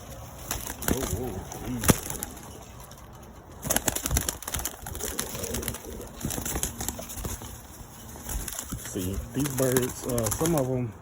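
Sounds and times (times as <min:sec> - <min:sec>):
pigeons cooing: 0:00.0 - 0:10.9.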